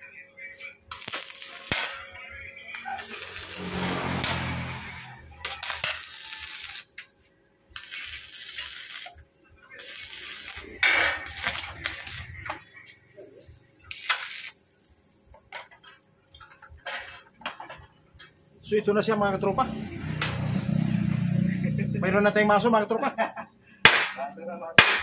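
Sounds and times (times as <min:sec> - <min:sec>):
arc welder crackling: 0:00.0 - 0:02.1, 0:02.7 - 0:21.8.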